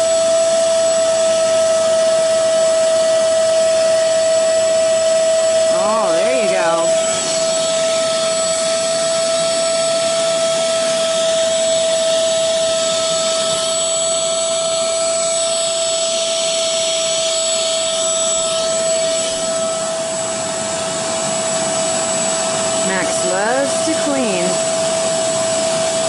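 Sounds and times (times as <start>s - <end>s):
carpet shampooer motor whine: 0.0s - 26.0s.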